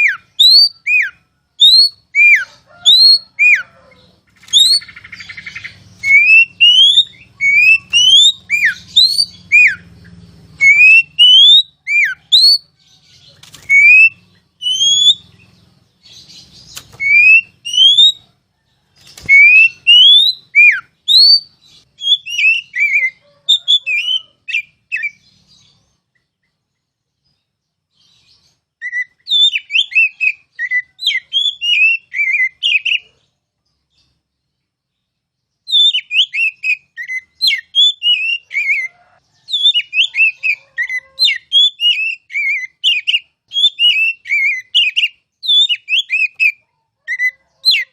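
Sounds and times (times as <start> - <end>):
bird singing whistles and chatter: 0.0 - 3.7, 4.4 - 18.2, 19.1 - 25.2, 28.8 - 33.1, 35.7 - 47.9.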